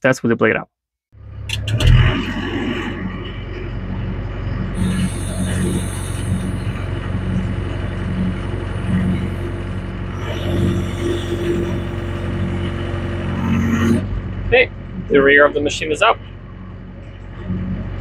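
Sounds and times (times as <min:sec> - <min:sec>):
excavator diesel engine under load: 0:01.2 - 0:18.0.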